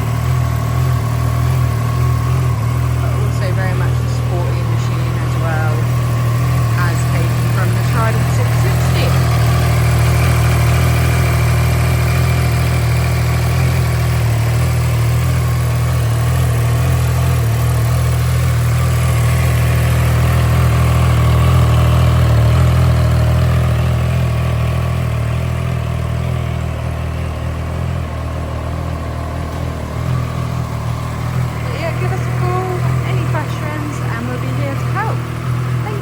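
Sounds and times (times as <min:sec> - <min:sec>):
motorcycle engine idling: 0:00.0 - 0:36.0.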